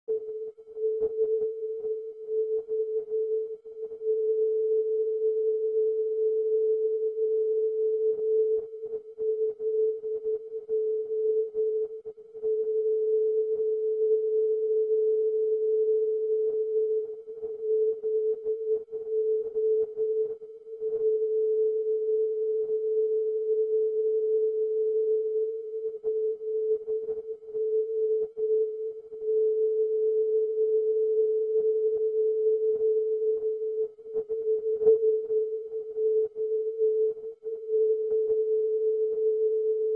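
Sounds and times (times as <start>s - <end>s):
faint crackling static: 0.1s - 39.9s.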